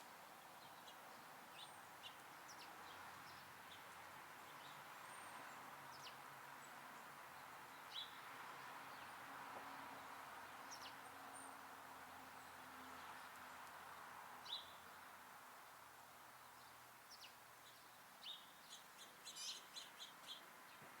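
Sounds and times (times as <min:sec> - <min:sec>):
low outdoor hiss: 0:00.0 - 0:21.0
songbirds chirping: 0:00.0 - 0:21.0.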